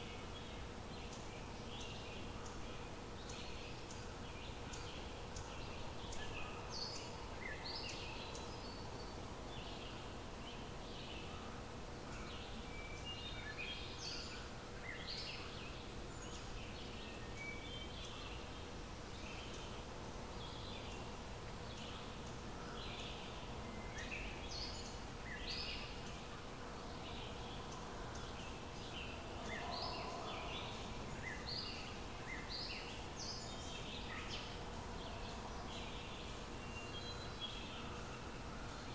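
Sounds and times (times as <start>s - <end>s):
faint steady hum: 0.0s - 38.9s
songbirds chirping and singing: 0.0s - 38.9s.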